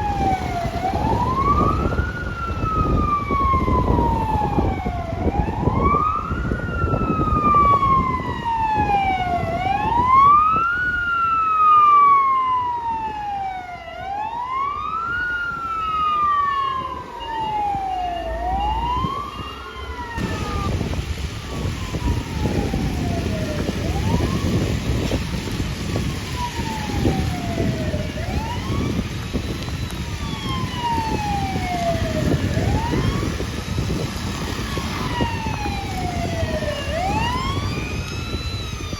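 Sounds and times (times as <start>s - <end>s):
fire truck sirens wailing: 0.0s - 38.9s
truck engines rumbling: 0.0s - 38.9s.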